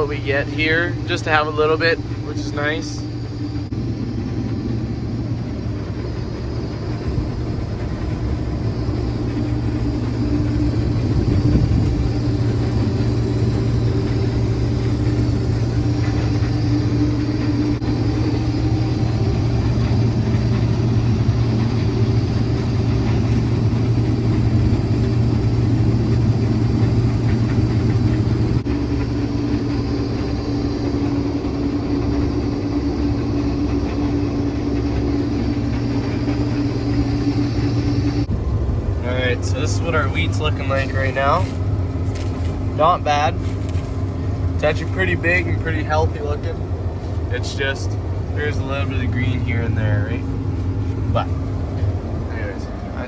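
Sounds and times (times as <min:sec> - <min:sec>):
combine harvester engine drone: 0:00.0 - 0:53.0
steady machine hum: 0:00.0 - 0:53.0.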